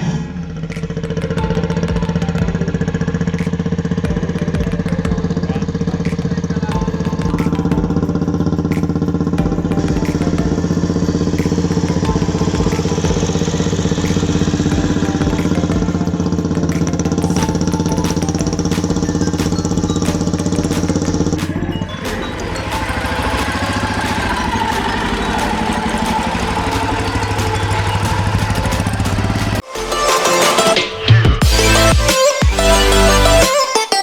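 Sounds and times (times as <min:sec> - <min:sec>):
motorcycle engine running: 0:00.0 - 0:29.6.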